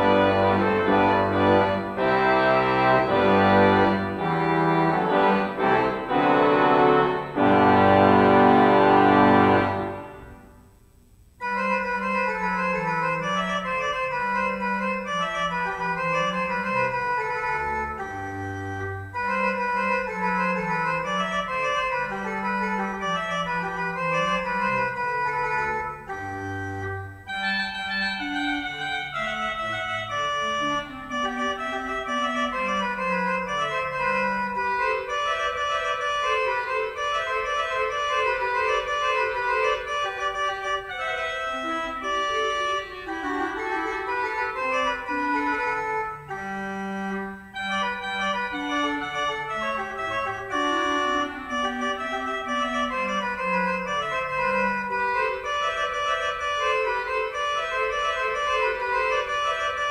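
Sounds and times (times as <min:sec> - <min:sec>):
church organ playing: 0:00.0 - 0:10.6, 0:11.4 - 0:59.9.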